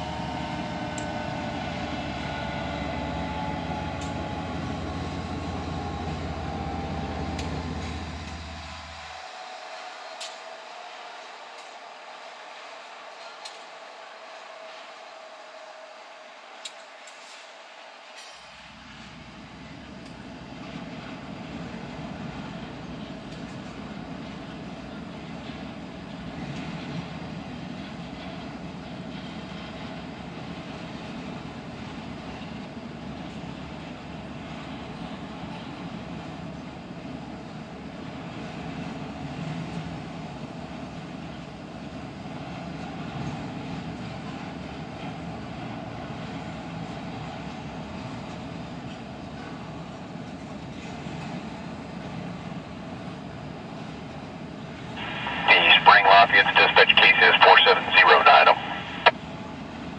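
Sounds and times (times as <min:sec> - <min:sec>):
freight train wheels rumbling: 0:00.0 - 0:55.4.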